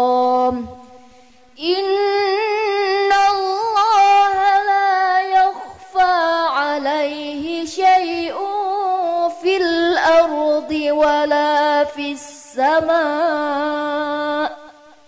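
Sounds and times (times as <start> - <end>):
person reciting melodically: 0.0 - 0.8, 1.6 - 14.7.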